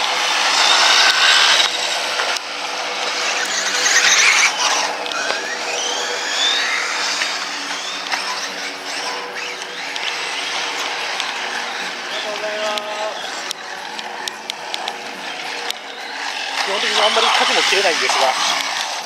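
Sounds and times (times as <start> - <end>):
toy car electric motor whining: 0.0 - 19.0.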